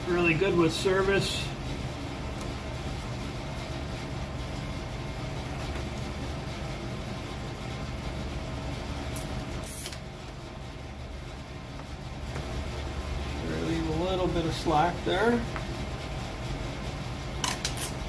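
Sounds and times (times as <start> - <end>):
space heater humming: 0.0 - 18.0.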